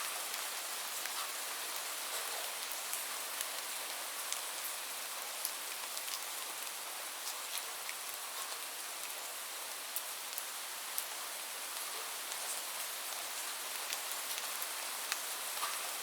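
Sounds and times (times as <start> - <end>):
raindrops ticking on a surface: 0.1 - 16.0.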